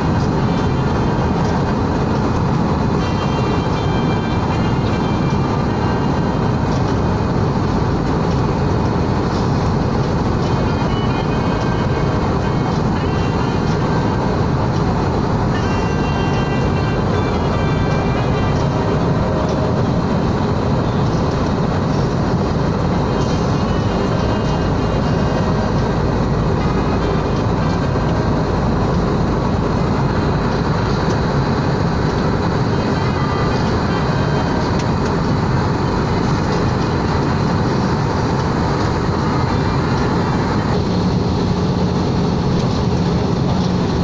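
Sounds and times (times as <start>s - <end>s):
jet engine and airflow rush: 0.0s - 44.0s.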